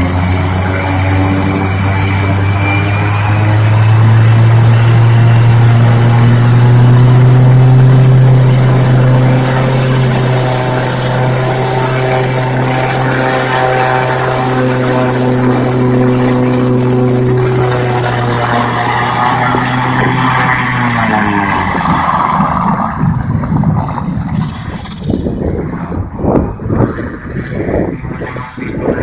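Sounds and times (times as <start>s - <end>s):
high turbine whine: 0.0s - 29.0s
propeller drone: 0.0s - 29.0s.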